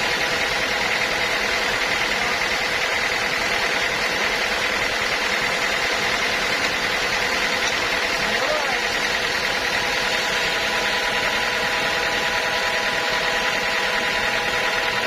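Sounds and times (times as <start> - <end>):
sawmill machinery whining: 0.0 - 15.0.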